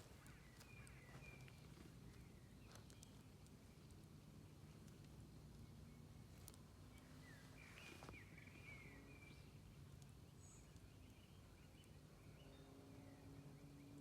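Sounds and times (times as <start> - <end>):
faint birds chirping: 0.0 - 14.0
faint low hum: 0.0 - 14.0.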